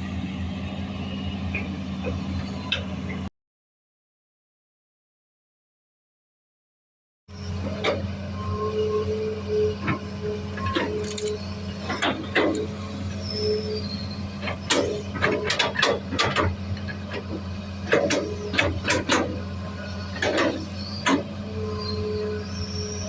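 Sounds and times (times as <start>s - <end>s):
excavator engine droning: 0.0s - 3.3s, 7.3s - 23.0s.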